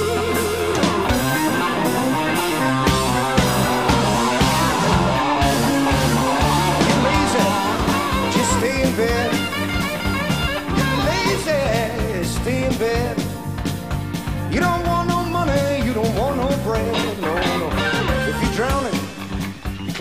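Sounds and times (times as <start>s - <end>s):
rock music with singing: 0.0s - 20.0s.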